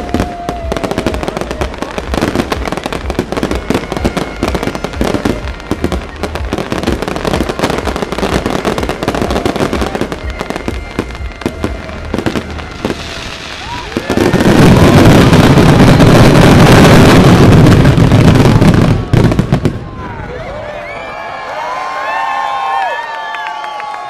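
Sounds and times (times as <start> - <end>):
fireworks bursting and crackling: 0.0 - 20.6.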